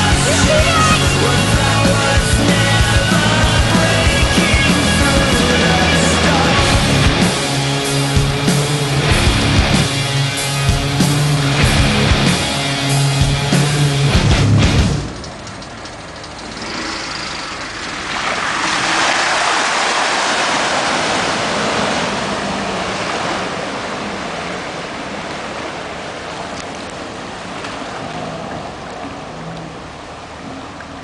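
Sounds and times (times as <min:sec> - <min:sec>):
water rushing and splashing: 0:00.0 - 0:31.0.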